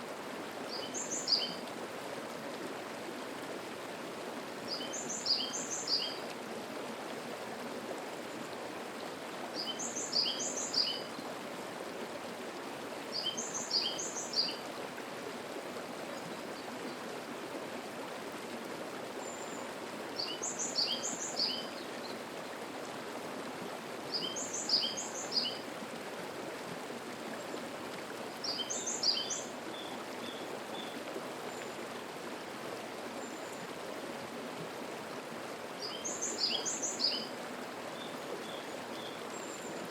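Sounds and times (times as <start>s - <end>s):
mountain stream murmur: 0.0s - 39.9s.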